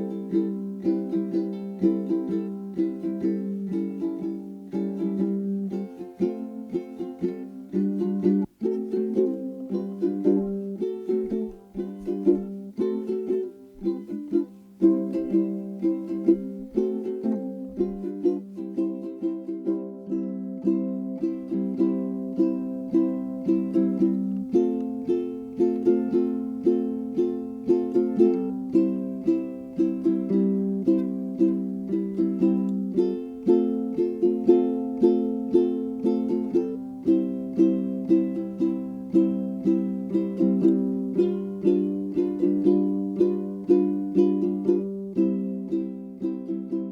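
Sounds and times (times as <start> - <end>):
plucked string instrument tune: 0.0 - 46.9
strummed ukulele: 0.0 - 46.9.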